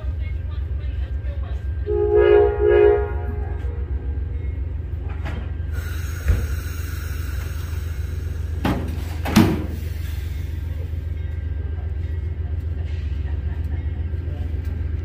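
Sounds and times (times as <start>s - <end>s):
freight train rumble: 0.0s - 15.0s.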